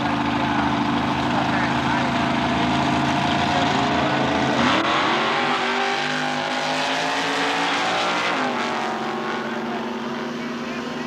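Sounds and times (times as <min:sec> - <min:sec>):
drag racing engines revving hard: 0:00.0 - 0:11.0.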